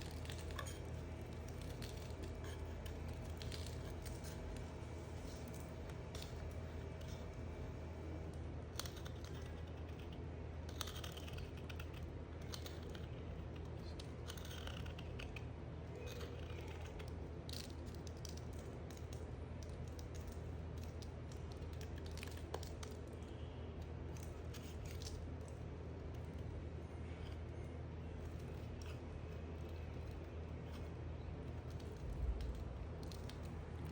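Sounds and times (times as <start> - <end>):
knife cutting soap: 0.0 - 33.9
steady low hum: 0.0 - 33.9.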